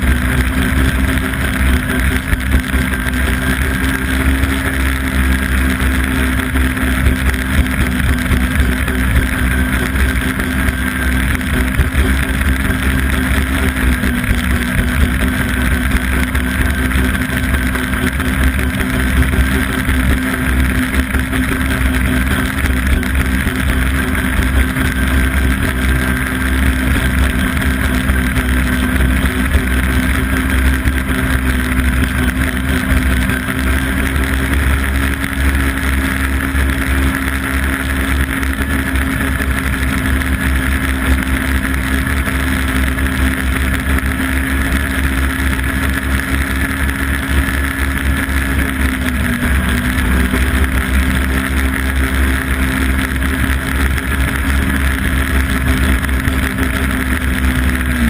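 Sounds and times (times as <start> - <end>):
rush of track and wind: 0.0 - 58.0
snowmobile engine running: 0.0 - 58.0.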